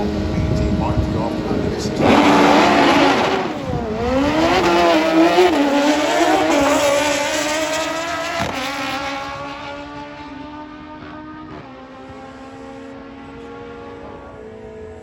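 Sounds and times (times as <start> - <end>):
motorcycle engine at full throttle: 0.0 - 15.0.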